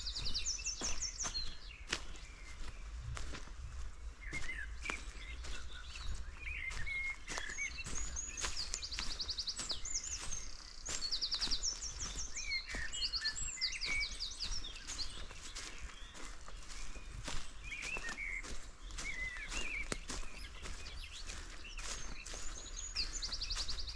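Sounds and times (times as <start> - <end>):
footsteps on forest floor: 0.0 - 23.9
songbirds chirping and trilling: 0.0 - 23.9.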